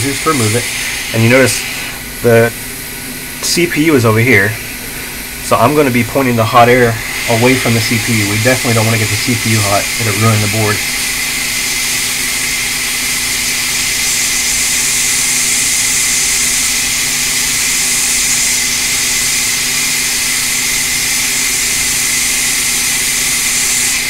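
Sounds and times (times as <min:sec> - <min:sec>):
hot-air gun hissing: 0:00.0 - 0:24.0.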